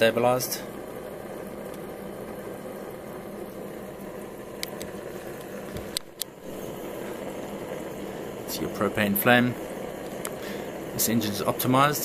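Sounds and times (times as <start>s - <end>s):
engine generator running: 0.0s - 12.0s.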